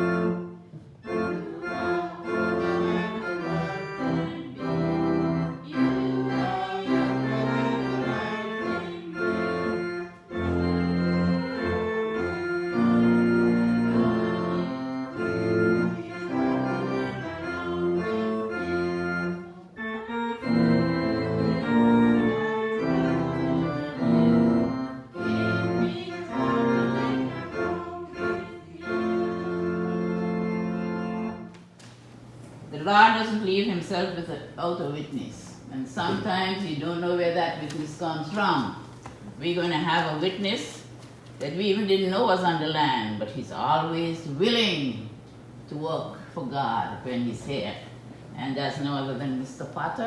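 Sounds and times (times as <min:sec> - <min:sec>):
organ chords: 0:00.0 - 0:41.3.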